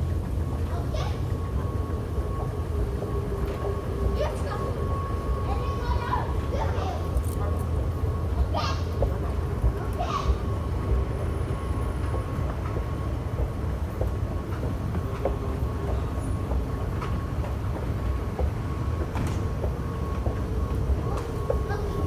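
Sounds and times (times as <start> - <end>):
train rumble inside carriage: 0.0 - 22.0.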